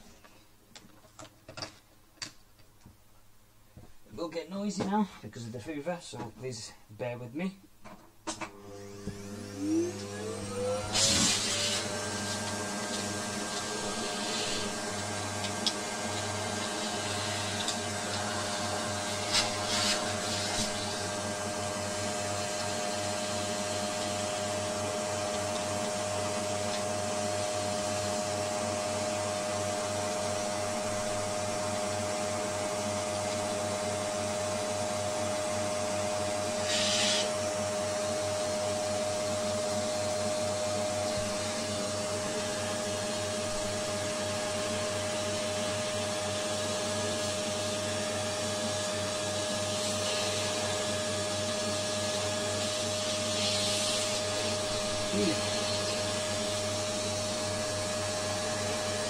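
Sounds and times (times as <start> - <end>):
vacuum cleaner running: 8.3 - 59.0.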